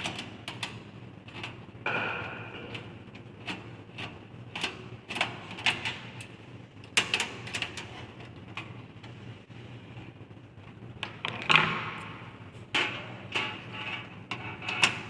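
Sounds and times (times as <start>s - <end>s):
computer parts clicking and tapping: 0.0s - 9.2s, 11.0s - 15.0s.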